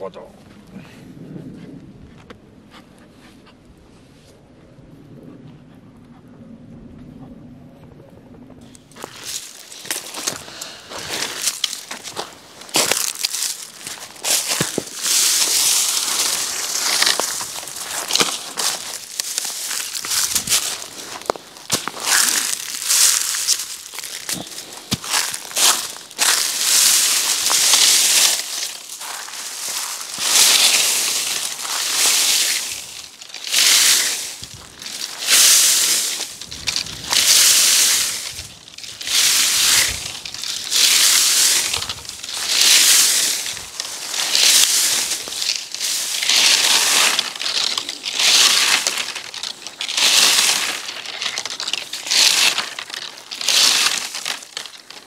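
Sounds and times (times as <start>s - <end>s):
slow rough crunching: 8.6s - 55.0s.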